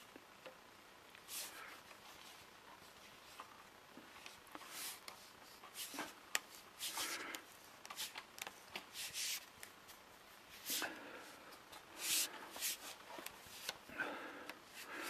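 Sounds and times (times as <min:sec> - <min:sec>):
plastic pipes rustling and scraping: 0:01.3 - 0:15.0.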